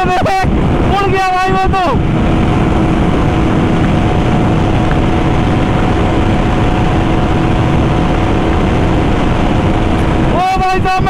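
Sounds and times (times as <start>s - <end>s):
motorcycle engine drone: 0.0s - 11.0s
wind rush on microphone: 0.0s - 11.0s.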